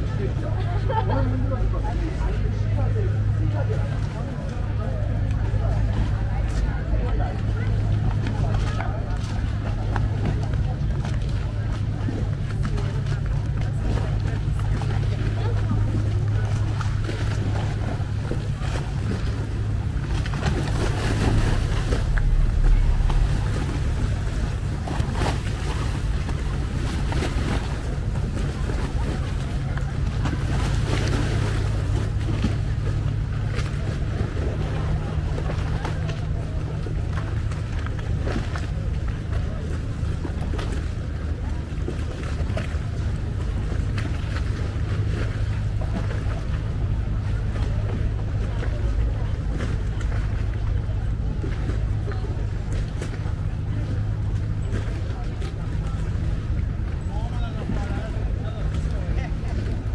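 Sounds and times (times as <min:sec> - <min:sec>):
boat engine droning: 0:00.0 - 0:59.9
water washing: 0:00.0 - 0:59.9.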